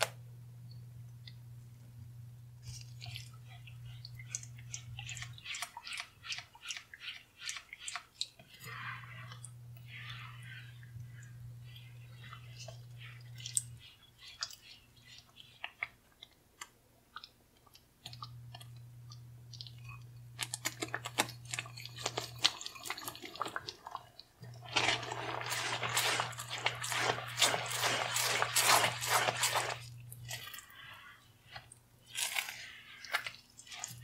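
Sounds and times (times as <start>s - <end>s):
cream sauce bubbling in a pan: 2.6s - 34.0s
utensil stirring wet sauce: 2.6s - 34.0s.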